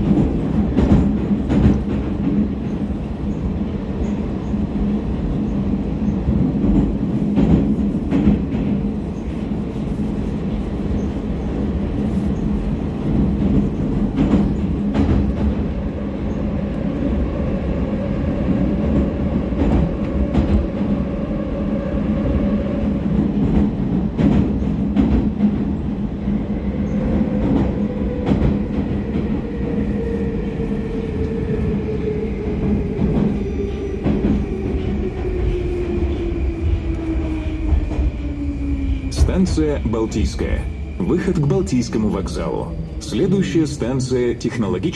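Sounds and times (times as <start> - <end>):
metro train rumble and hum: 0.0 - 44.9
wheels clacking on rails: 0.0 - 44.9.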